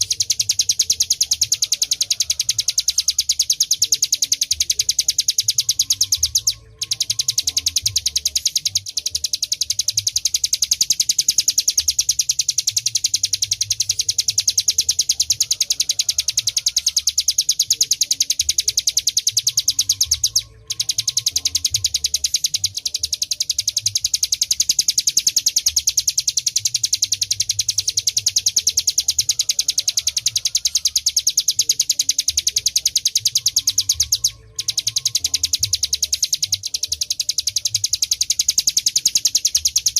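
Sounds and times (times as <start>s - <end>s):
bird singing a fast high trill: 0.0s - 39.9s.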